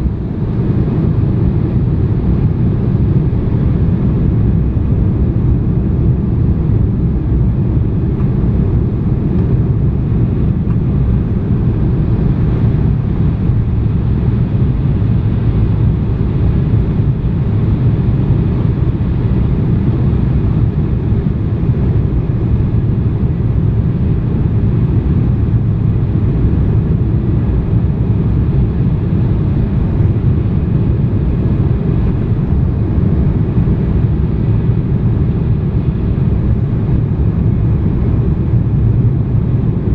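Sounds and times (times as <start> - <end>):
airliner cabin roar: 0.0 - 39.9.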